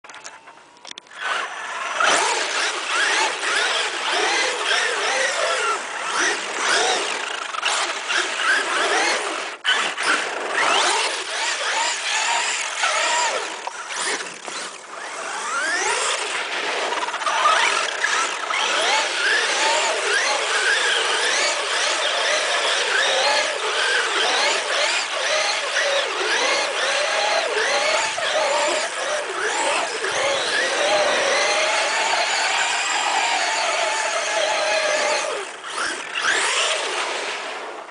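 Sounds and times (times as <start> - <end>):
electric motor whining: 0.2 - 37.4.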